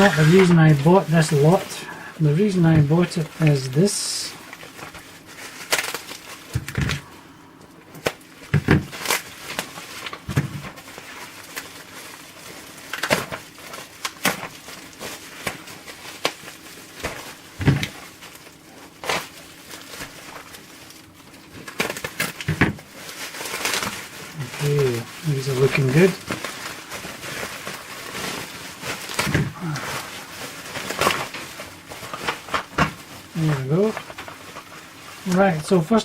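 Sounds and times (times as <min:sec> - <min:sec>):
packaging rustling: 0:00.0 - 0:36.0.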